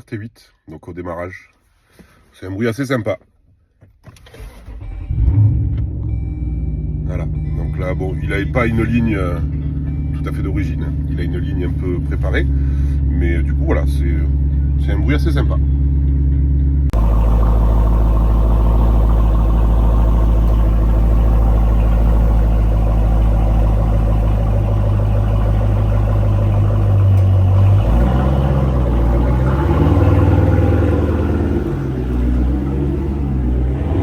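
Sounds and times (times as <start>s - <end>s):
car engine idling and revving: 4.7s - 34.0s.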